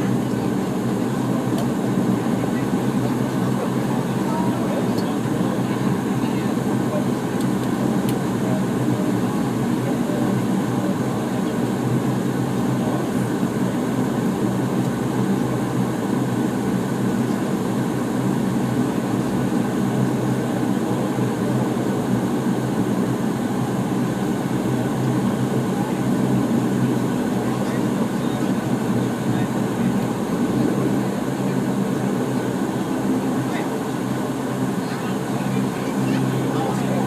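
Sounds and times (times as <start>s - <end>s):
turboprop engine drone in cabin: 0.0s - 37.0s.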